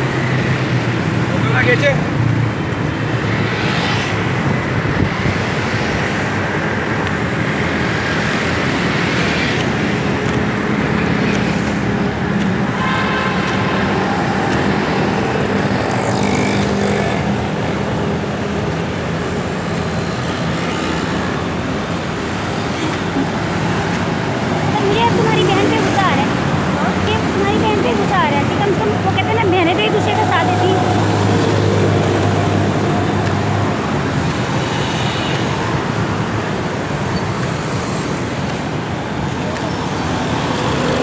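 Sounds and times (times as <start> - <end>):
road traffic passing: 0.0 - 41.0.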